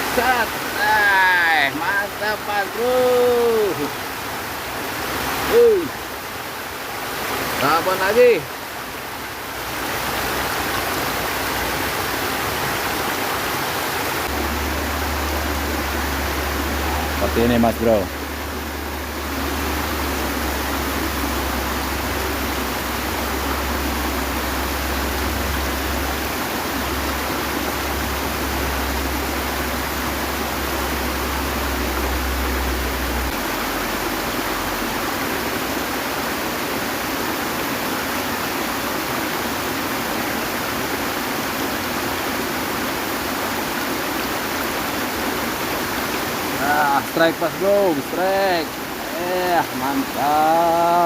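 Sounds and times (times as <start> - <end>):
stream water flowing: 0.0 - 51.0.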